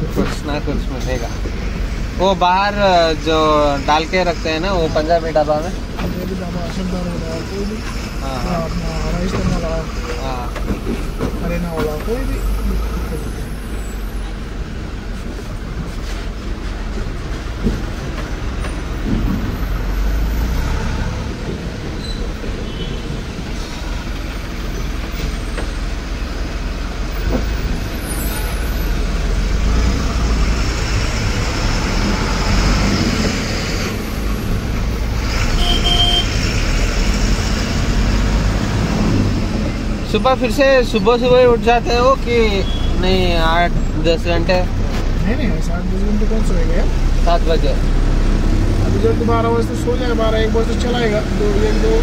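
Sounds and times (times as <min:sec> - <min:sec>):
truck engine and road noise: 0:00.0 - 0:52.0.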